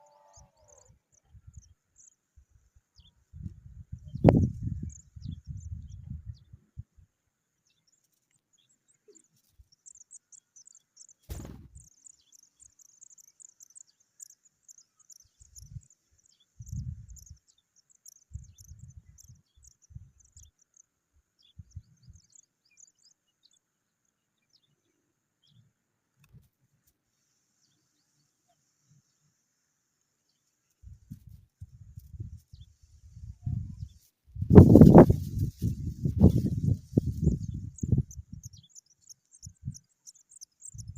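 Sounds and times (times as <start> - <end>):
small birds chirping: 0.0 - 6.9, 7.6 - 26.9, 30.2 - 40.9.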